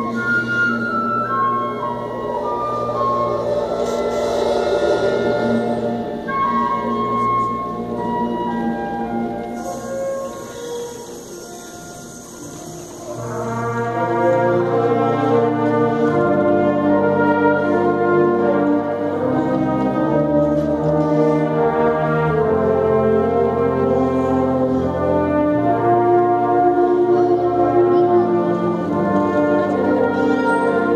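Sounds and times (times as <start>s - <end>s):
wind band playing brass chords: 0.0s - 30.9s.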